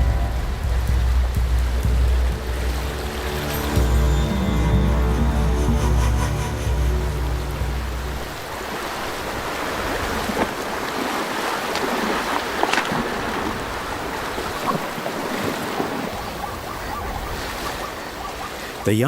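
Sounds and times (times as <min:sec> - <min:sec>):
river water splashing: 0:00.0 - 0:18.9.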